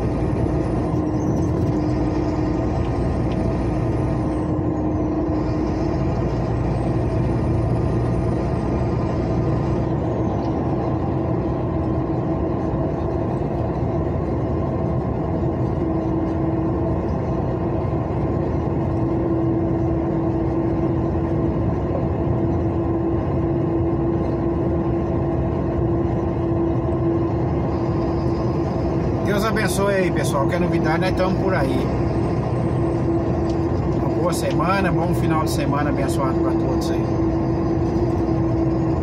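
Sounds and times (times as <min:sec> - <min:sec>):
truck engine and tyre drone: 0:00.0 - 0:39.0.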